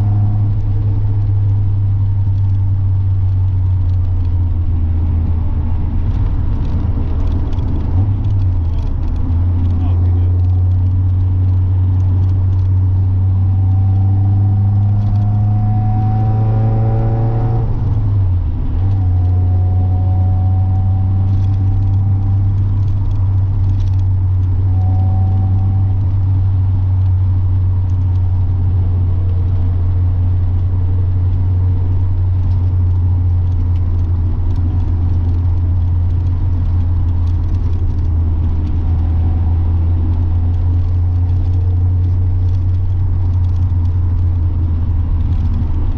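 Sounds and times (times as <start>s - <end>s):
car engine revving and cruising: 0.0s - 45.9s.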